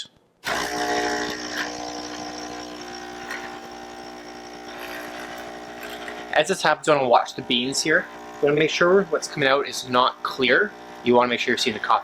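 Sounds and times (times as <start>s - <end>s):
espresso machine pump buzzing: 0.4s - 12.0s.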